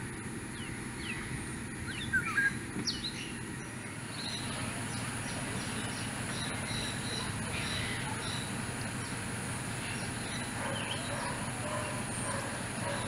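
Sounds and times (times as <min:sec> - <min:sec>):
outdoor background hiss: 0:00.0 - 0:13.0
small birds chirping: 0:00.4 - 0:13.0.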